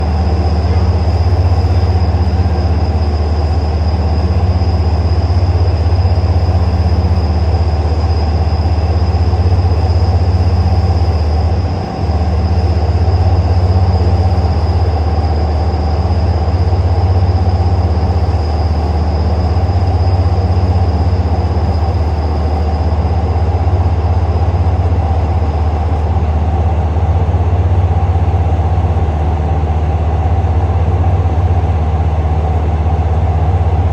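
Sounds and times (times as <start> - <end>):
high whine: 0.0 - 33.9
train low rumble: 0.0 - 33.9.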